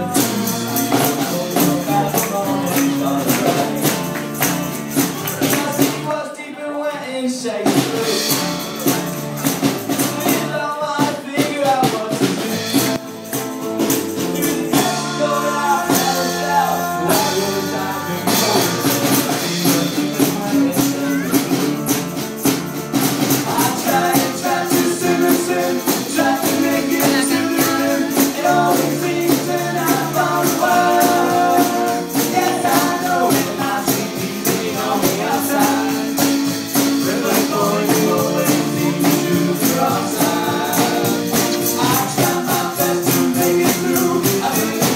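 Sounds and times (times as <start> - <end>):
steady percussion beat: 0.0 - 6.1, 7.7 - 44.9
live band playing: 0.0 - 6.2, 7.6 - 44.9.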